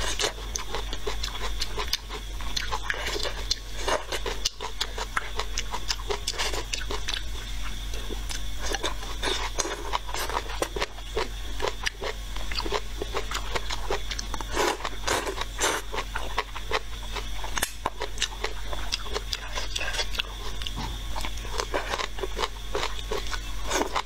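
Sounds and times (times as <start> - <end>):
steady low hum: 0.0 - 24.0
wet chewing and mouth clicks: 0.0 - 24.0.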